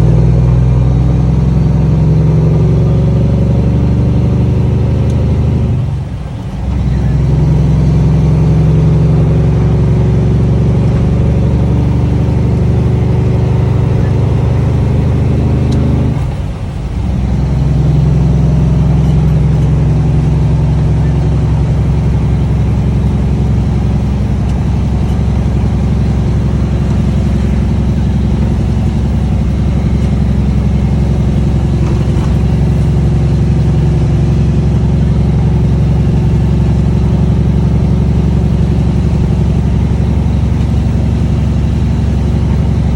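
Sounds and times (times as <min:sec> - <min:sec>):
diesel engine exhaust drone: 0:00.0 - 0:42.9.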